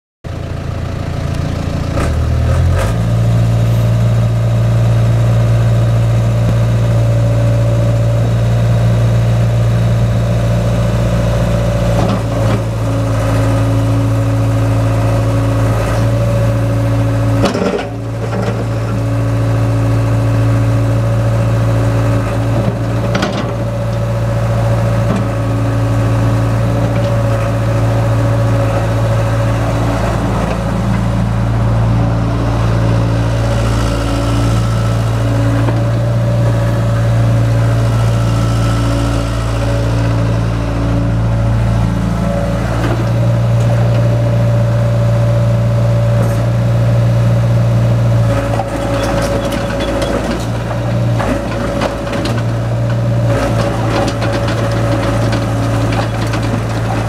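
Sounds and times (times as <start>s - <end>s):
excavator diesel engine running: 0.3s - 57.0s.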